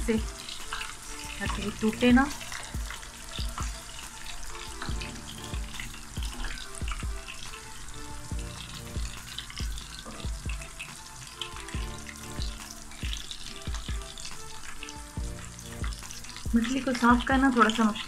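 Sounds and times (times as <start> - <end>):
low thumping beat: 0.0 - 7.6, 8.3 - 14.4, 15.0 - 17.7
fish frying in oil: 0.0 - 18.0.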